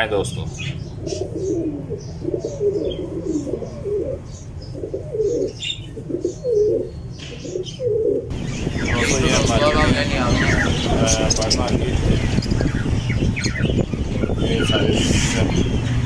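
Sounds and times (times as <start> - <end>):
birds chirping: 0.0 - 16.0
busy background noise: 0.0 - 16.0
pigeons cooing: 0.0 - 16.0.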